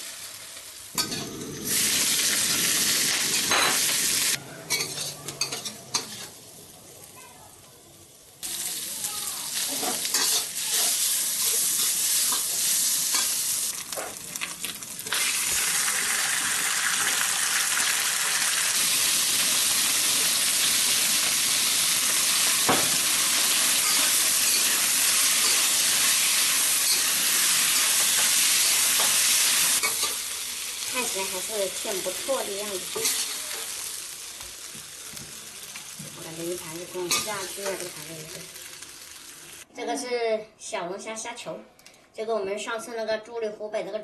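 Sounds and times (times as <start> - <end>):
meat sizzling in a wok: 0.0 - 39.7.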